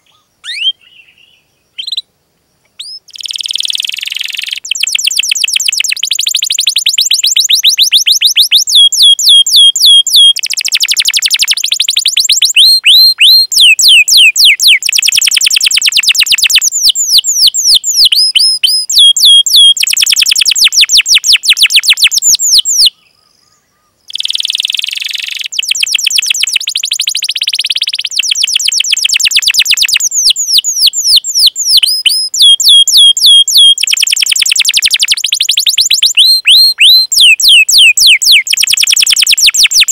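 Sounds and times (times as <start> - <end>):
canary singing: 0.0 - 2.1, 2.8 - 23.1, 24.1 - 39.9.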